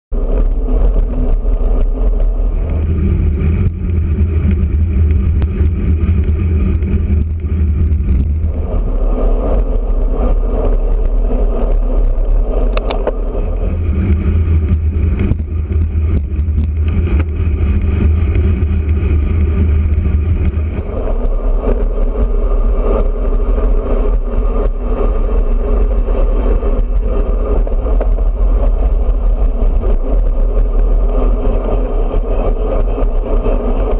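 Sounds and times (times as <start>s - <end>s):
wind rushing over microphone: 0.1s - 33.9s.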